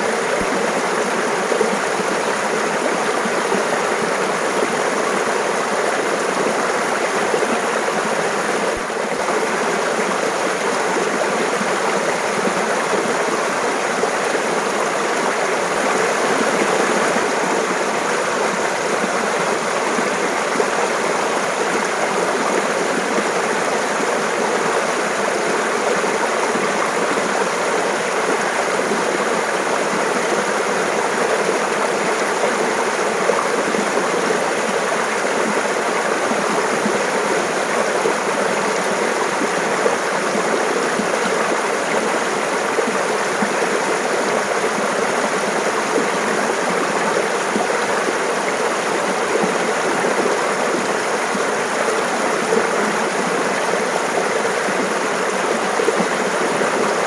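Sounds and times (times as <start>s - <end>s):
mountain stream babbling: 0.0s - 57.0s.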